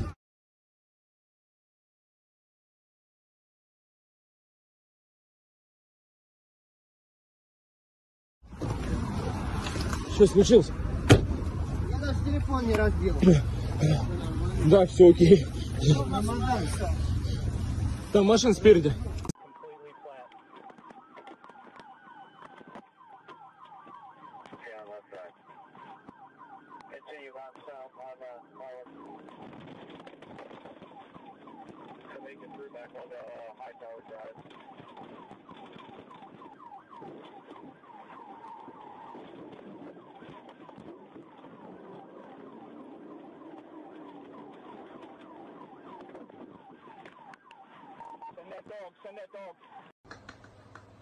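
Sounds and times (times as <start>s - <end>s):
faint police sirens: 8.4s - 51.0s.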